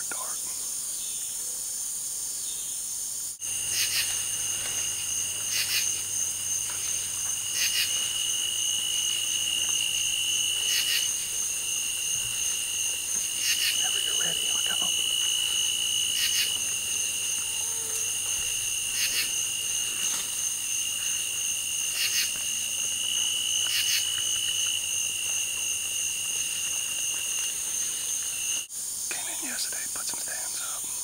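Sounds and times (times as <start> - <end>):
insects droning: 0.0 - 31.0
insect rasps: 2.5 - 31.0.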